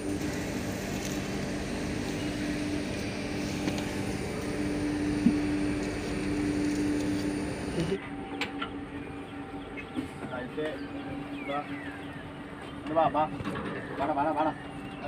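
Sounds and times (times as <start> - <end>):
boat machinery humming: 0.0 - 15.0.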